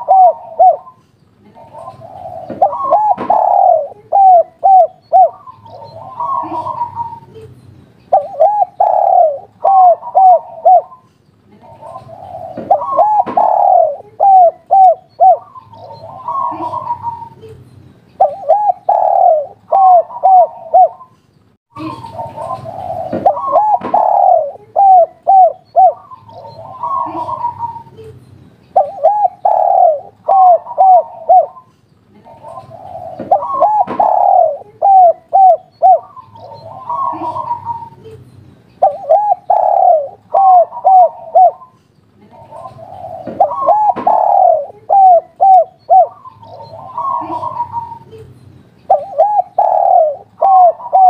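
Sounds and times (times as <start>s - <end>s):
dove cooing: 0.0s - 7.5s, 8.1s - 17.5s, 18.2s - 21.1s, 21.8s - 28.1s, 28.7s - 38.2s, 38.8s - 48.2s, 48.9s - 51.0s.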